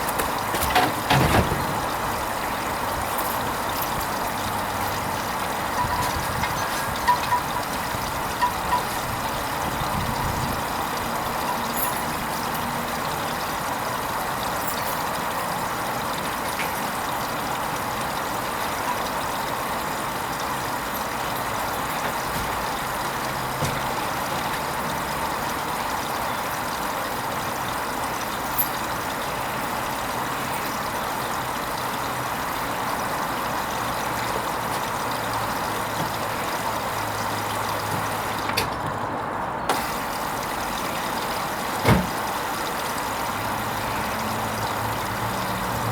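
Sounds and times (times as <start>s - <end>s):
washing machine water and pump: 0.0s - 45.9s.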